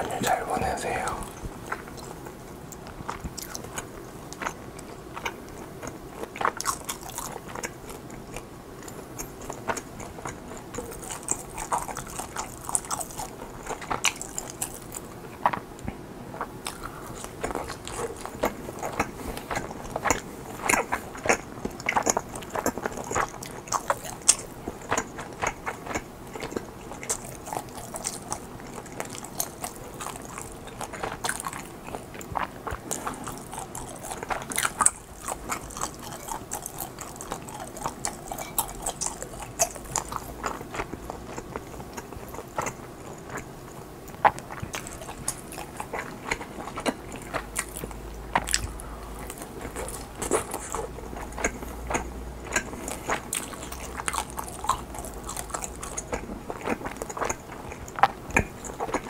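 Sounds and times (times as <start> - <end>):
mouth chewing clicks and smacks: 0.0 - 59.0.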